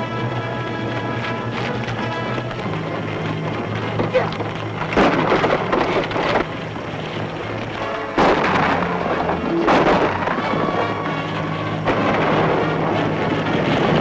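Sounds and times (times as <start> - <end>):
loud rumbling noise: 0.0 - 14.0
orchestral score with held low notes: 0.0 - 14.0.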